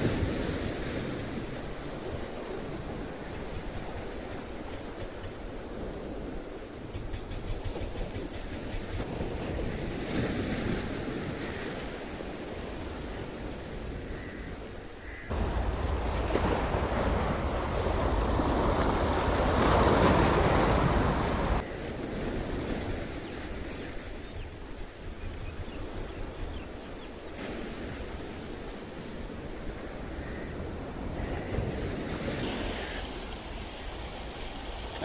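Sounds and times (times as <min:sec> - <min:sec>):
sea waves washing on shore: 0:00.0 - 0:25.2, 0:25.8 - 0:35.0.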